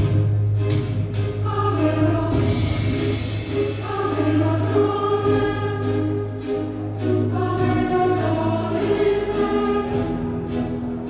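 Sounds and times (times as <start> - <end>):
choir singing sustained chords: 0.0 - 11.0
steady low drone: 0.0 - 11.0.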